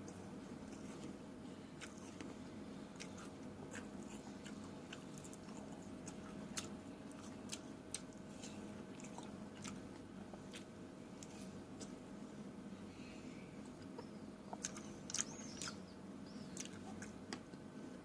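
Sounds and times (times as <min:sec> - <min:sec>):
chewing fresh fruit: 0:00.0 - 0:12.0, 0:13.6 - 0:15.8, 0:16.4 - 0:17.7
faint steady hum: 0:00.0 - 0:18.0.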